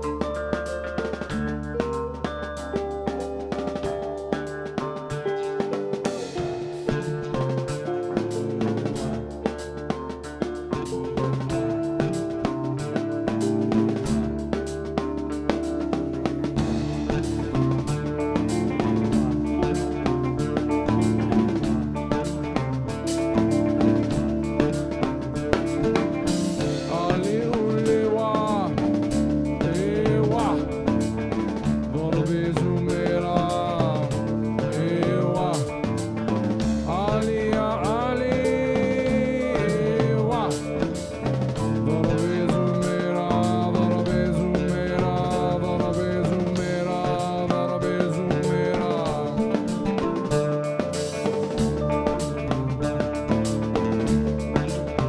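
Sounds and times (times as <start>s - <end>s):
drum kit beat: 0.0s - 55.0s
electric guitar: 0.0s - 55.0s
oud: 0.0s - 55.0s
man singing: 6.0s - 53.4s.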